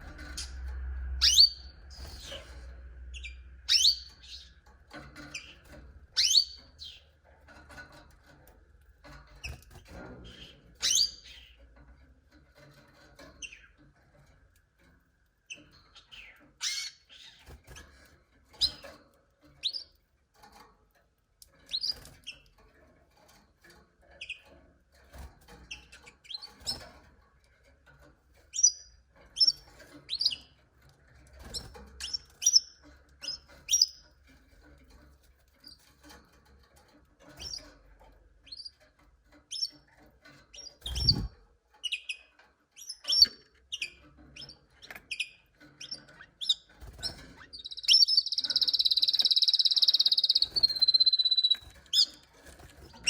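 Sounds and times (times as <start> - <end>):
canaries chirping: 0.0 - 20.6, 21.5 - 53.0.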